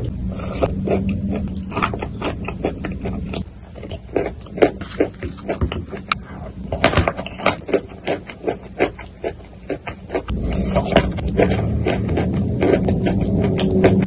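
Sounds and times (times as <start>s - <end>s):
wet chewing mouth sounds: 0.3s - 14.0s.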